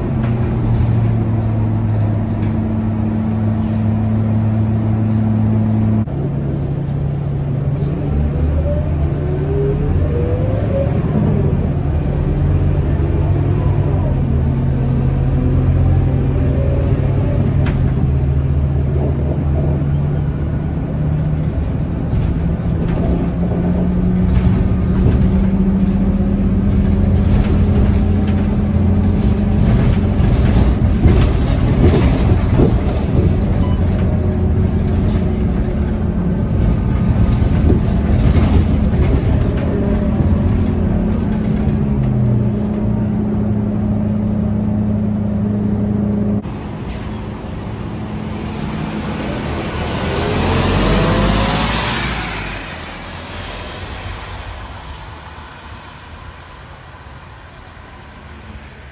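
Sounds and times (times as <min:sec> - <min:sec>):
bus engine humming from inside: 0:00.0 - 0:58.9.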